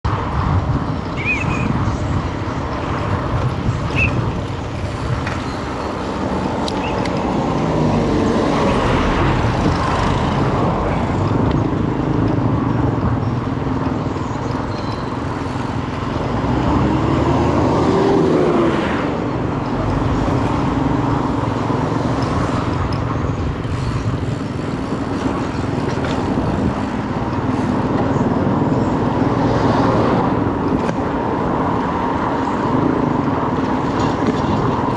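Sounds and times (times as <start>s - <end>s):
road noise: 0.0s - 34.9s.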